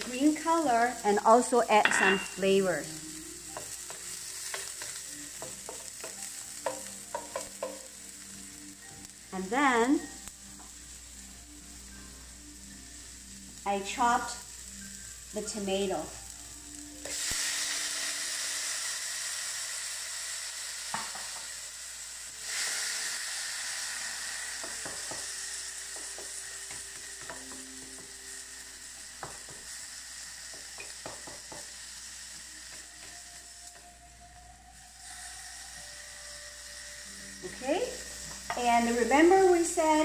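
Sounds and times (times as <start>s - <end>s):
tomatoes sizzling in hot oil: 0.0s - 40.0s.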